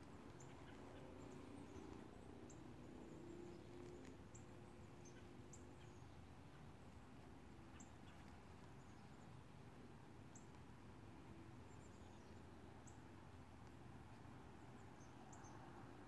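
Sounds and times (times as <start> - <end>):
faint low hum: 0.0 - 16.0
small birds chirping: 0.0 - 16.0.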